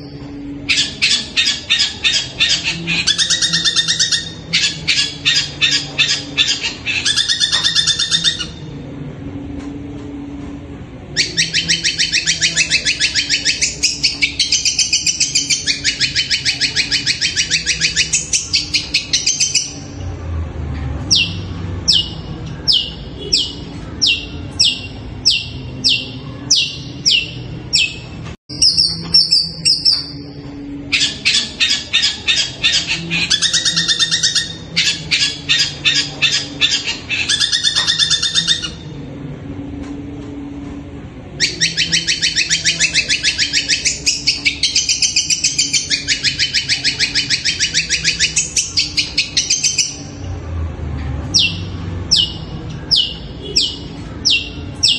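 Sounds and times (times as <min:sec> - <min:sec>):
bird singing and chattering: 0:00.0 - 0:08.7, 0:11.2 - 0:20.0, 0:21.0 - 0:38.9, 0:41.4 - 0:50.2, 0:51.3 - 0:54.9.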